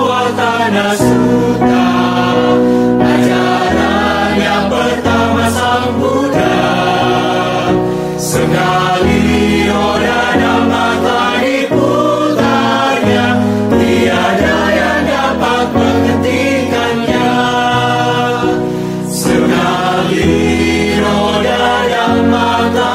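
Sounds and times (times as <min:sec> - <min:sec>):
mixed choir singing: 0:00.0 - 0:22.9.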